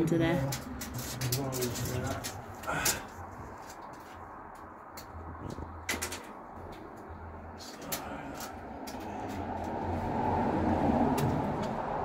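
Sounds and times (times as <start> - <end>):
low engine hum: 2.1 - 12.0.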